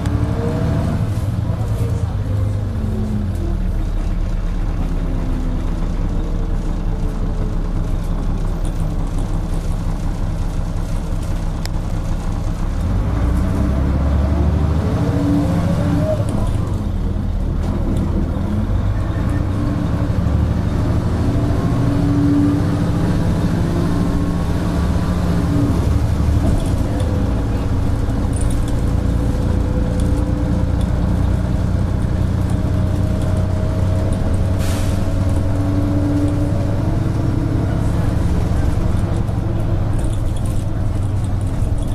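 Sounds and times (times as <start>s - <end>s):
bus diesel engine running: 0.0s - 41.9s
road noise: 0.0s - 41.9s.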